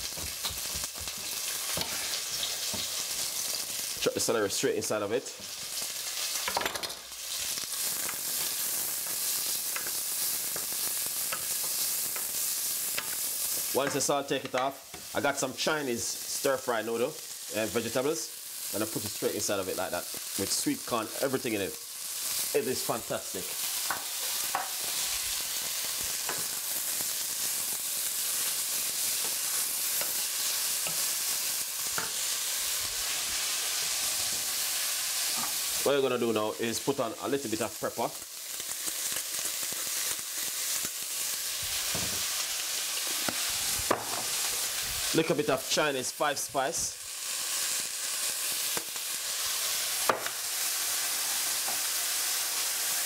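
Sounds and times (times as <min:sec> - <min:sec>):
vegetables sizzling in oil: 0:00.0 - 0:53.0.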